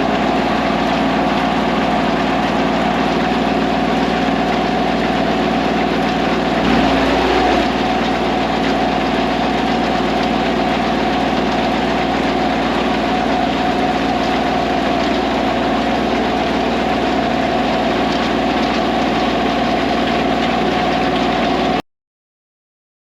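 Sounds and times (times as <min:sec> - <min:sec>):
baler machinery working: 0:00.0 - 0:21.8
diesel tractor engine running: 0:00.0 - 0:21.8.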